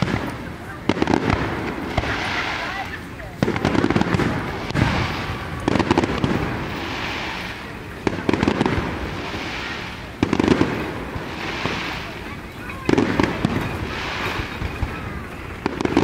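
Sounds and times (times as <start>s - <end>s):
crackling hiss: 0.0s - 16.0s
fireworks shells bursting: 0.0s - 16.0s.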